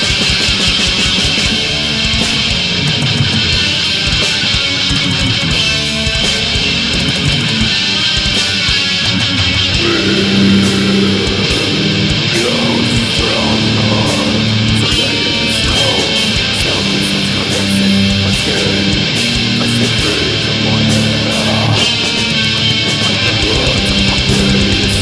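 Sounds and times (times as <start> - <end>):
bass guitar chords: 0.0 - 25.0
distorted electric guitars: 0.0 - 25.0
drums: 0.0 - 25.0.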